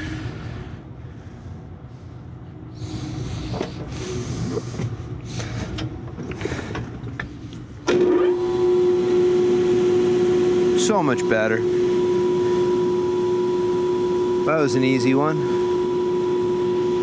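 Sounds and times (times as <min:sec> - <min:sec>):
blower motor humming: 0:00.0 - 0:17.0.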